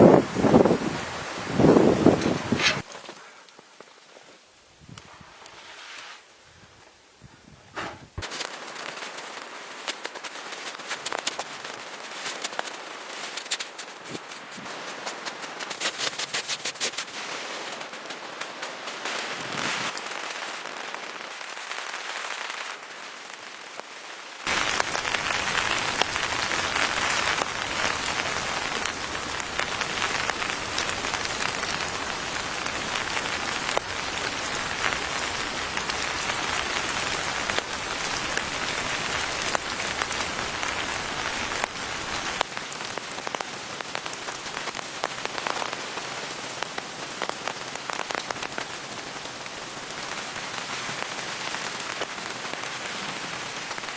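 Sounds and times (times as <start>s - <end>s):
rain pattering: 0.0s - 2.9s, 8.2s - 53.9s.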